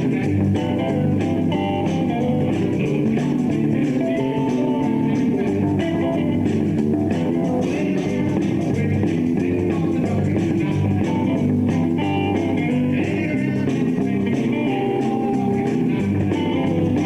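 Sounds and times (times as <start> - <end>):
bass guitar: 0.0 - 17.0
drums: 0.0 - 17.0
electric guitars: 0.0 - 17.0.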